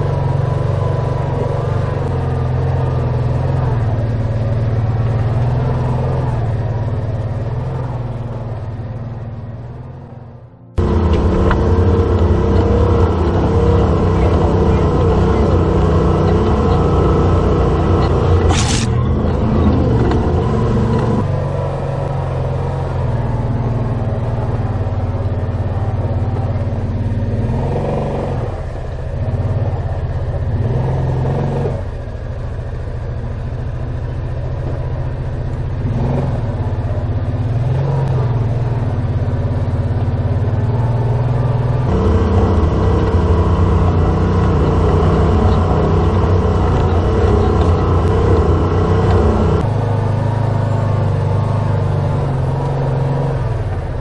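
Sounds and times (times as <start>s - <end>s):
utility vehicle engine running: 0.0s - 54.0s.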